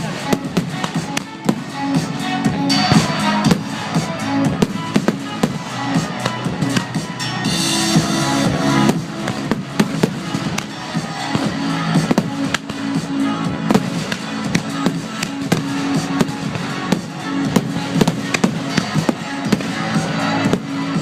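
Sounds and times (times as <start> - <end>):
fireworks bangs: 0.0 - 1.8, 2.8 - 7.1, 8.4 - 21.0
loud music: 0.0 - 21.0.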